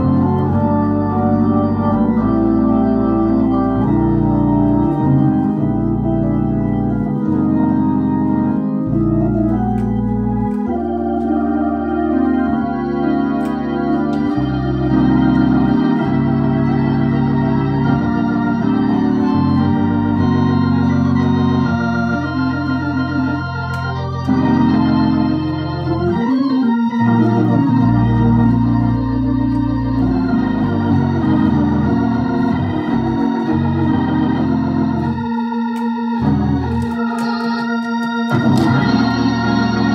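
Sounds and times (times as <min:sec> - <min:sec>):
organ chords through rotary speaker: 0:00.0 - 0:39.9.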